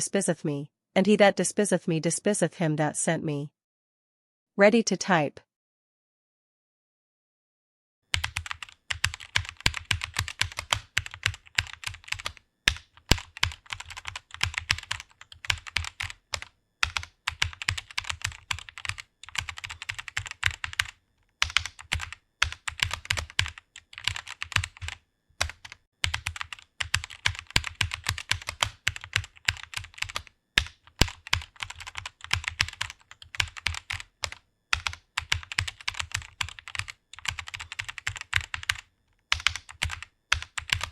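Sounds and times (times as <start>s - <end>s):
fast keyboard typing: 8.1s - 40.9s.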